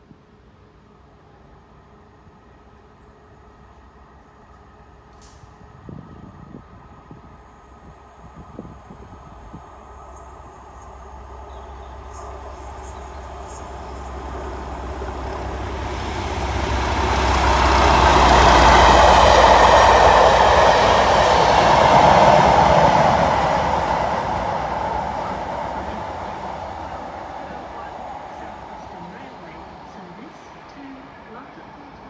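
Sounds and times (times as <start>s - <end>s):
diesel locomotive passing at speed: 0.9s - 32.0s
train wheel noise: 4.6s - 32.0s.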